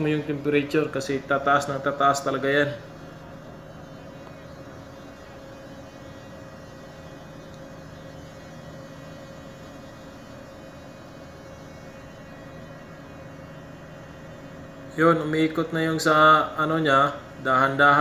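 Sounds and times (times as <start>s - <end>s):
engine room machinery hum: 0.0s - 18.0s.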